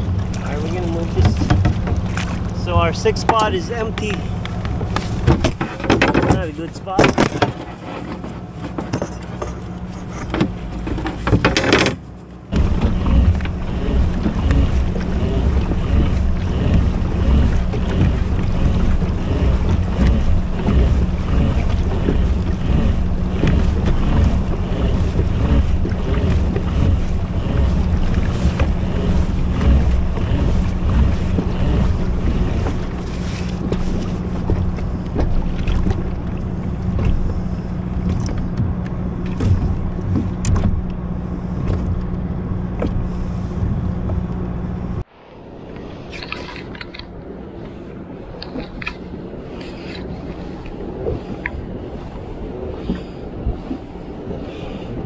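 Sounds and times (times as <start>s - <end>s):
steady low hum: 0.0s - 55.0s
water noise: 0.0s - 55.0s.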